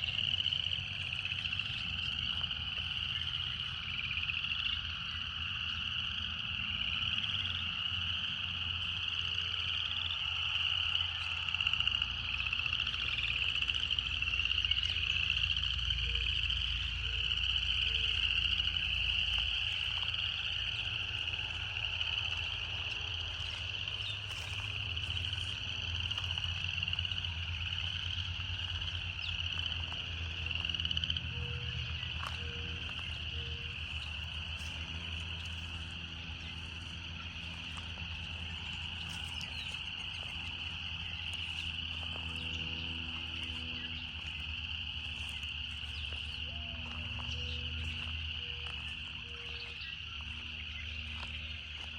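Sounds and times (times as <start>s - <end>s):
cicadas buzzing: 0.0s - 51.9s.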